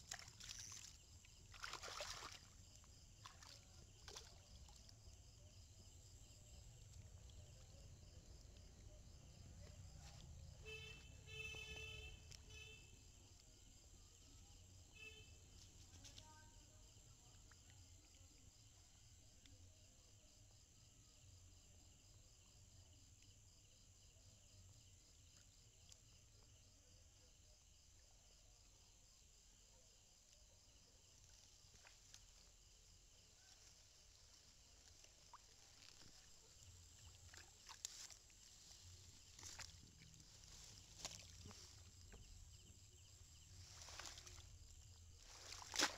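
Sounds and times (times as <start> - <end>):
night insects trilling: 0.0 - 45.9.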